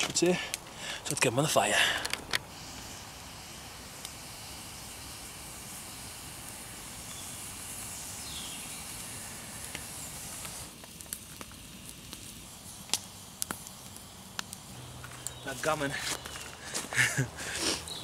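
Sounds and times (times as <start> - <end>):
burning wood crackling and popping: 0.0 - 18.0
campfire hissing: 0.0 - 18.0.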